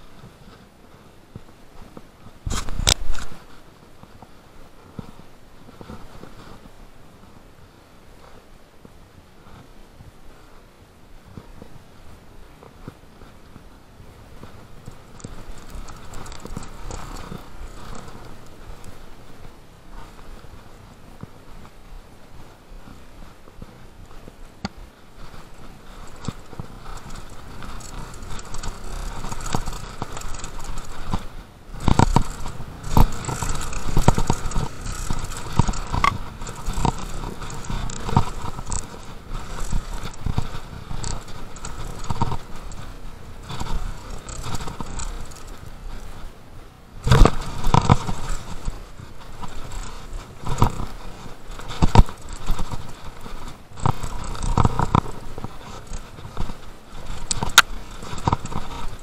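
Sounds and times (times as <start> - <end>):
mountain bike rattling on trail: 0.0 - 59.0.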